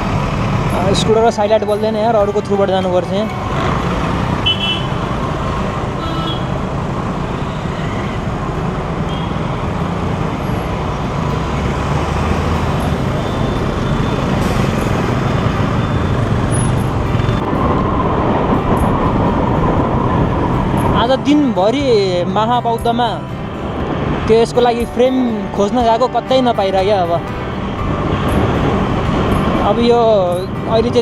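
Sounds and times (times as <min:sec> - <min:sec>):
road traffic noise: 0:00.0 - 0:31.0.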